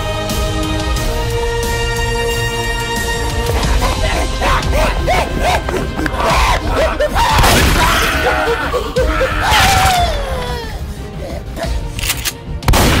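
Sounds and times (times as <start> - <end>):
action film soundtrack music: 0.0 - 13.0.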